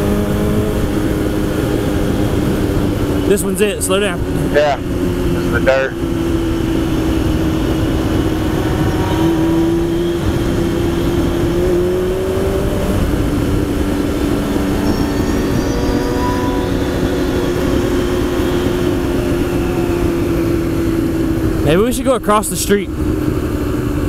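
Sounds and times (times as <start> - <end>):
wind rush on microphone: 0.0 - 21.7
motorcycle engine running: 0.0 - 24.0.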